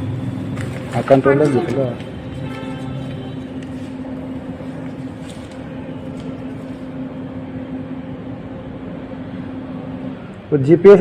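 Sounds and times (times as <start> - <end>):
machine hum: 0.0 - 10.4
background noise: 0.0 - 11.0.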